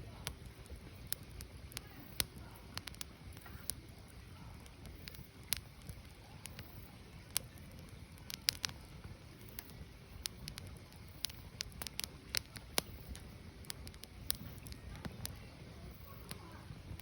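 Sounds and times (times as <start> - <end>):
low rumble of flames: 0.0 - 17.0
wood fire snapping and popping: 0.0 - 17.0.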